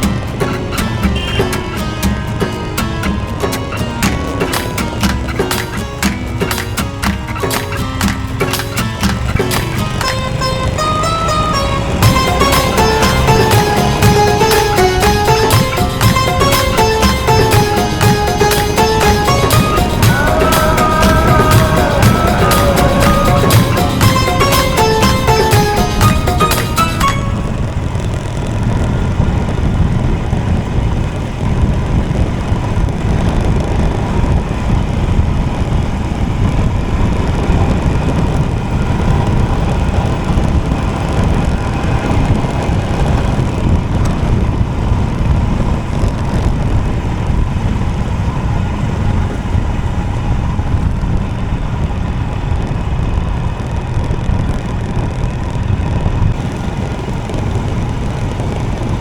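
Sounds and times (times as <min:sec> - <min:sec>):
motorcycle engine droning: 0:00.0 - 0:59.0
wind rumble on microphone: 0:00.0 - 0:59.0.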